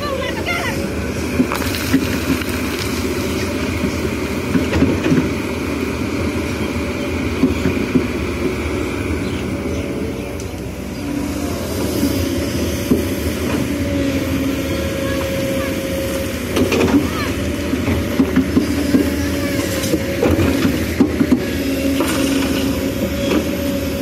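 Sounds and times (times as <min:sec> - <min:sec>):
excavator diesel engine with whine: 0:00.0 - 0:24.0.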